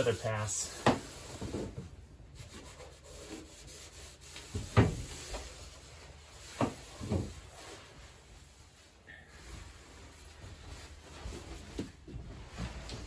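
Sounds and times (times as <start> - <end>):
cloth rubbing on metal floor: 0.0 - 13.0.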